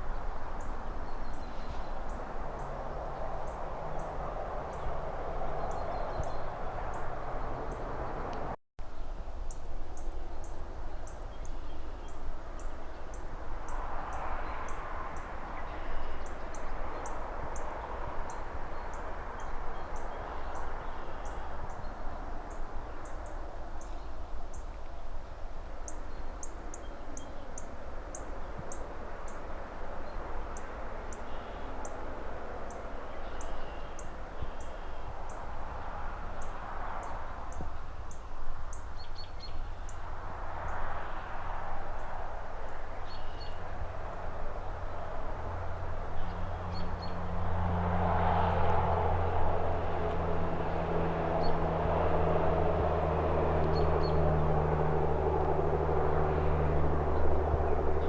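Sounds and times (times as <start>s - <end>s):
distant traffic: 0.0s - 58.0s
rustling leaves: 0.0s - 58.0s.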